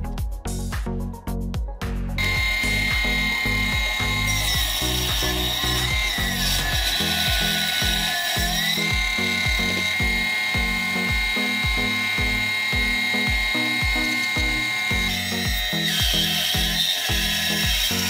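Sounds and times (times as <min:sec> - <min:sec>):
background music with beat: 0:00.0 - 0:18.0
saw blade cutting wood: 0:02.2 - 0:18.0
table saw whining: 0:02.2 - 0:18.0.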